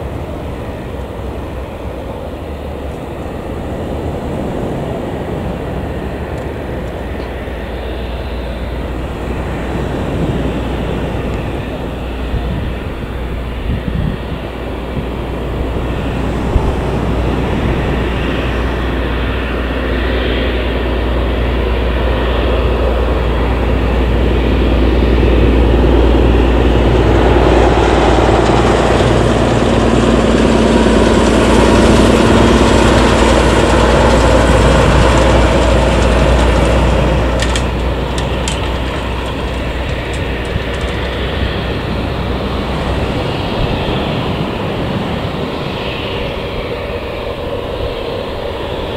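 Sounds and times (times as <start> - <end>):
jet engines taxiing: 0.0 - 48.9.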